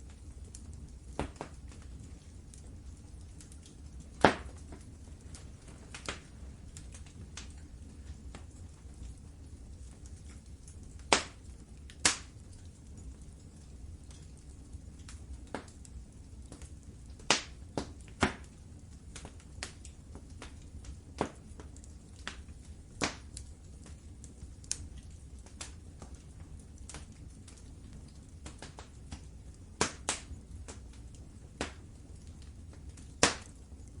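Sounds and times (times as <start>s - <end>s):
low rumble of flames: 0.0s - 34.0s
wood fire pops and snaps: 0.0s - 34.0s.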